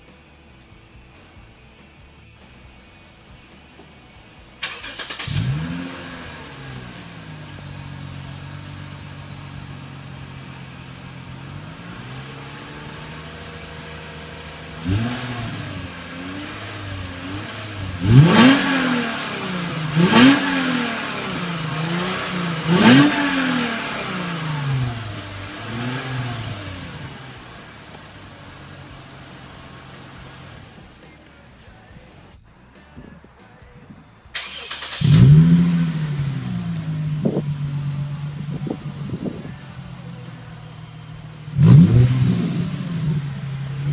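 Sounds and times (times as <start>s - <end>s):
car engine idling: 0.0s - 43.9s
engine revving in throttle blips: 4.6s - 30.8s, 34.4s - 43.9s.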